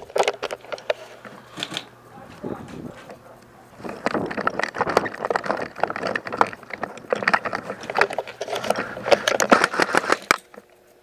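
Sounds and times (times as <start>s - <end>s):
gear rattling and rustling: 0.0s - 10.6s.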